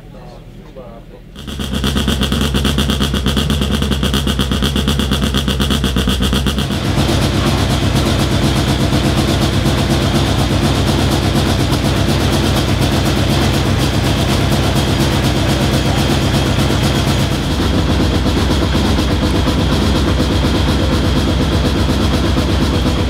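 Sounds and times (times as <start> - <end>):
rally car engine idling: 1.3 - 23.0.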